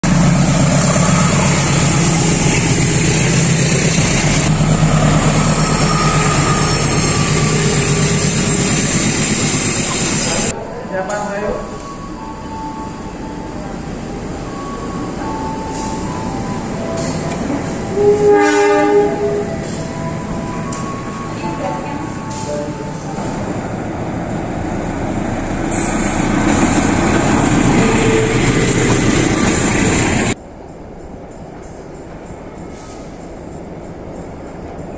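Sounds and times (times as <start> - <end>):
locomotive engine hum: 0.0 - 10.9, 11.6 - 34.9
train coaches rumbling over rails: 0.0 - 34.9.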